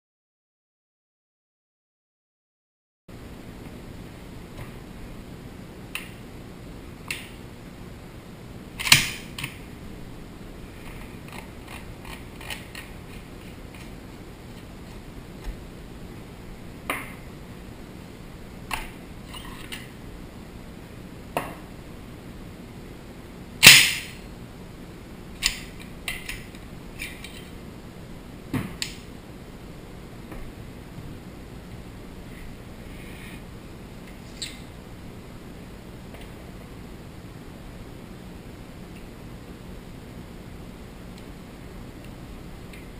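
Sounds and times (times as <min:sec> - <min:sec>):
faint steady hiss: 0:03.1 - 0:42.9.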